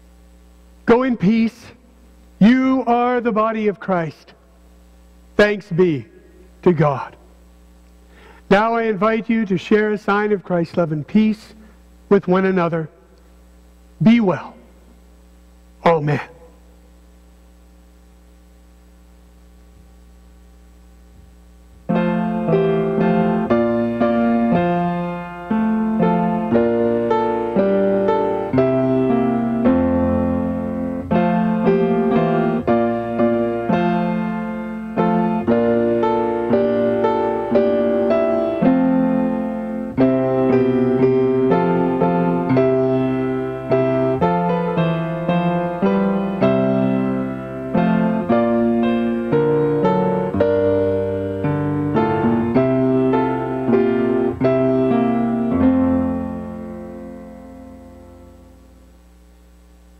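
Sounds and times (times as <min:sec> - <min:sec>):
faint electrical hum: 0:00.0 - 0:59.9.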